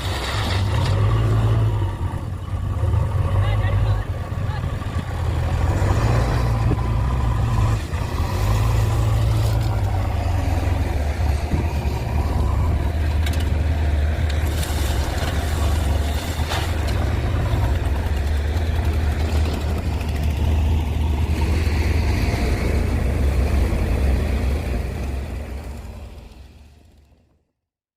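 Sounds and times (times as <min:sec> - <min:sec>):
diesel engine humming: 0:00.0 - 0:27.5.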